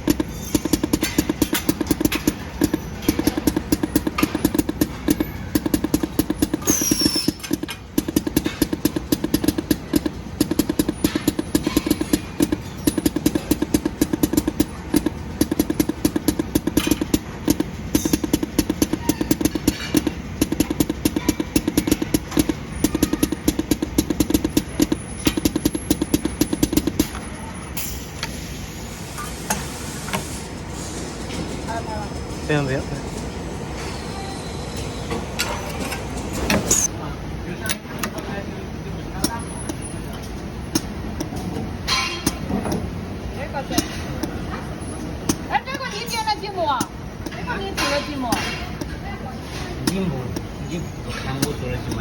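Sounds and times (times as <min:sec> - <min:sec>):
dispensing machine clicking and humming: 0:00.0 - 0:28.4, 0:35.2 - 0:52.0.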